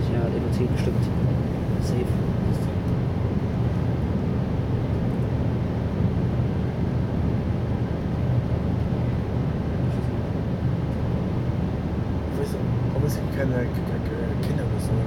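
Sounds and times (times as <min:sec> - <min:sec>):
electric train rumble inside cabin: 0:00.0 - 0:15.0.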